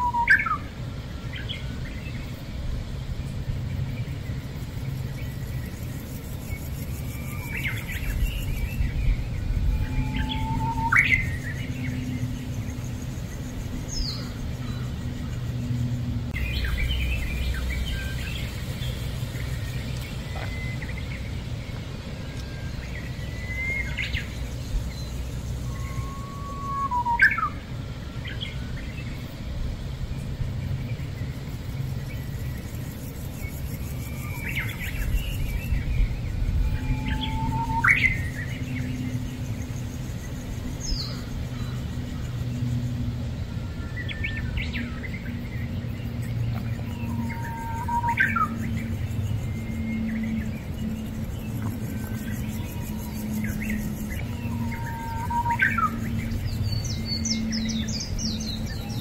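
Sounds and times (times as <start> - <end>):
birds chirping: 0.0 - 59.0
low background rumble: 0.0 - 59.0.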